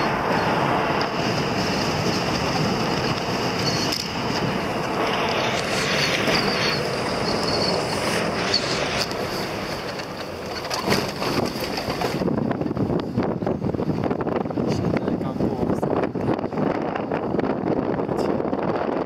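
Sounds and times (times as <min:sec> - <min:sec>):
vehicle cabin road noise: 0:00.0 - 0:19.0.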